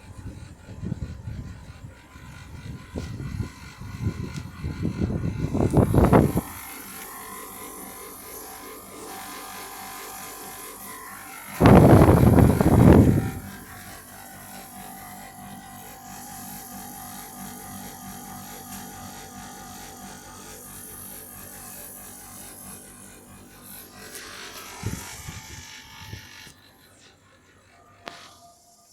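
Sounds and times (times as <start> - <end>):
air conditioner running: 0.0 - 28.7.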